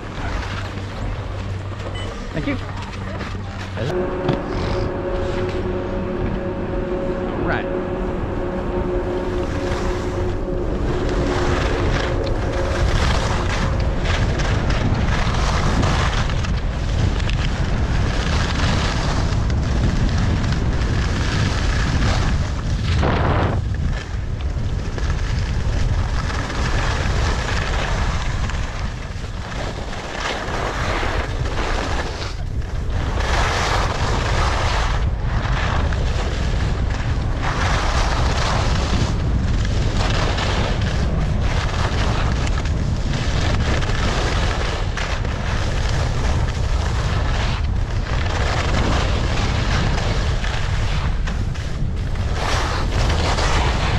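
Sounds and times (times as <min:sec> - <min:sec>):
skis scraping over snow: 0:00.0 - 0:53.9
wind buffeting microphone: 0:00.0 - 0:53.9.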